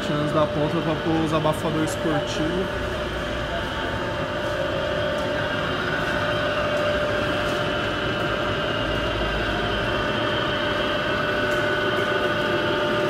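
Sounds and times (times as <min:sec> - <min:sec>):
machine hum: 0:00.0 - 0:13.0
steady whine: 0:00.0 - 0:13.0.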